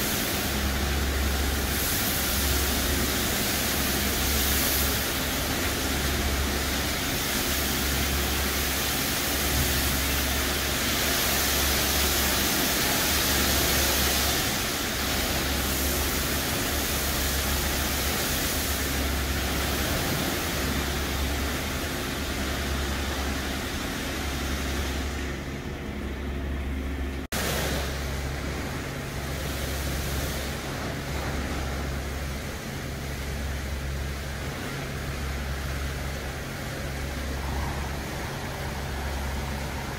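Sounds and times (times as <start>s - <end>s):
water spray hissing and splashing: 0.0s - 25.6s, 27.3s - 39.9s
low machinery rumble: 0.0s - 39.9s.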